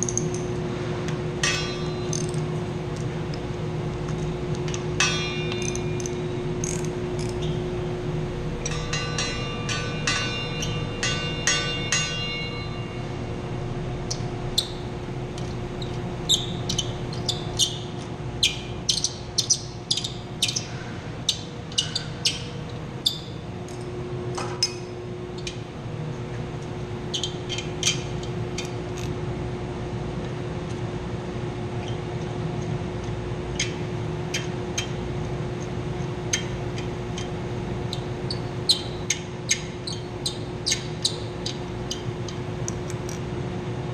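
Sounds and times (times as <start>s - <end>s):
machinery hum: 0.0s - 43.9s.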